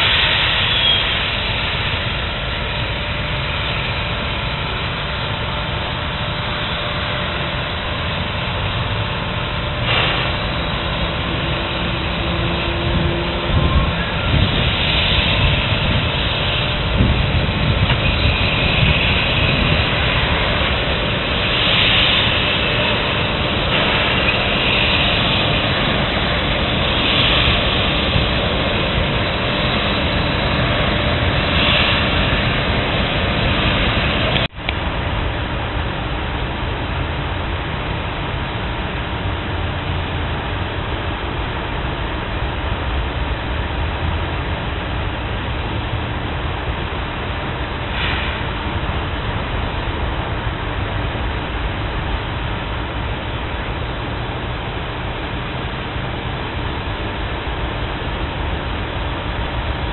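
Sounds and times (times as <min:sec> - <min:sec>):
steam hissing: 0:00.0 - 0:59.9
steam locomotives rumbling: 0:00.0 - 0:59.9.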